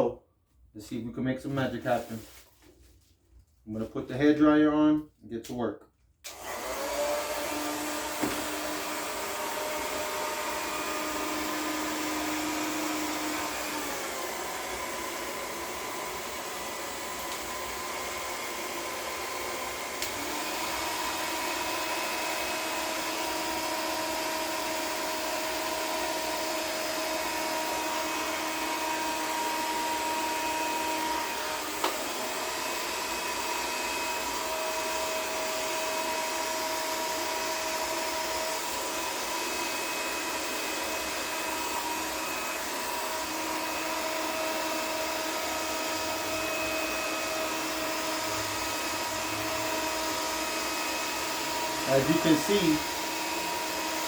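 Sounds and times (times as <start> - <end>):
hair dryer running: 6.2 - 54.0.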